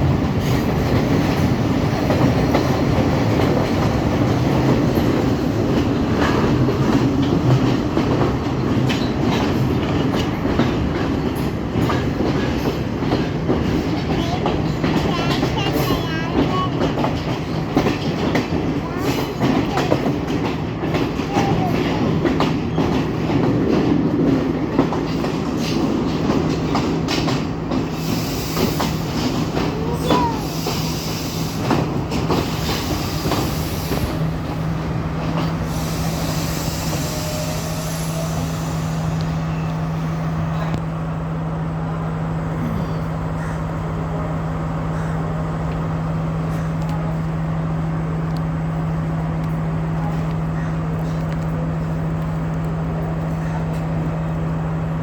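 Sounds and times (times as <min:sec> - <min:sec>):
train wheels clicking over rail joints: 0:00.0 - 0:40.9, 0:44.9 - 0:55.0
steady low train hum: 0:00.0 - 0:55.0.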